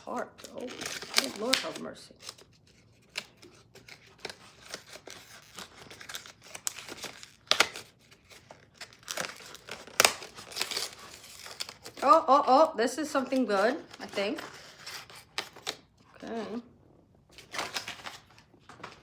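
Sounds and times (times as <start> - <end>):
packaging crinkling and tearing: 0.0 - 12.2, 13.2 - 15.9, 17.3 - 19.0.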